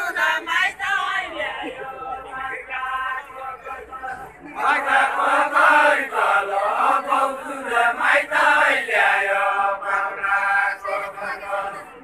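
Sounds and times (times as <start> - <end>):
group singing unaccompanied: 0.0 - 12.0.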